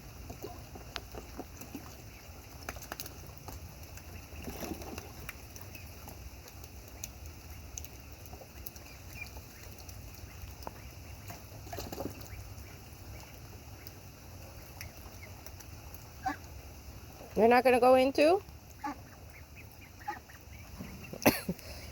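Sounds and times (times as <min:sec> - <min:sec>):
ducks splashing in water: 0:00.0 - 0:21.9
rain patter and drips: 0:00.0 - 0:21.9.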